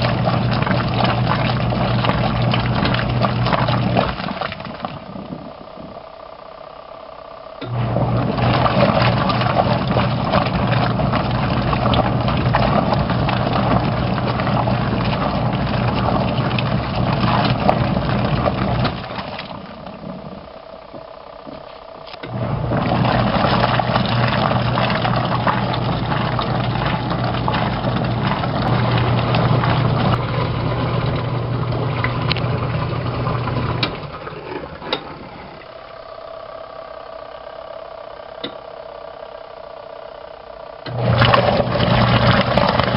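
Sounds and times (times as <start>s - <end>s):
water churning in tub: 0.0s - 6.2s, 7.6s - 21.6s, 22.2s - 37.2s, 40.8s - 42.9s
washing machine motor hum: 0.0s - 42.9s.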